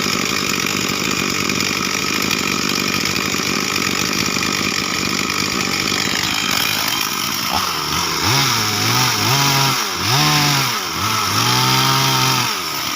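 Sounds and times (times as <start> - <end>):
chainsaw revving: 0.0 - 12.9.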